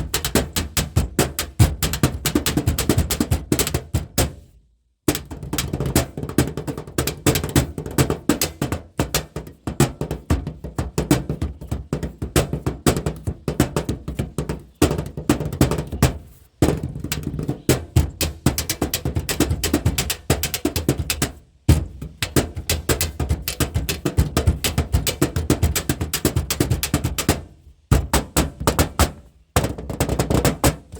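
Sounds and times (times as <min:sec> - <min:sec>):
drumming taps and knocks on objects: 0:00.0 - 0:04.4, 0:05.1 - 0:30.9.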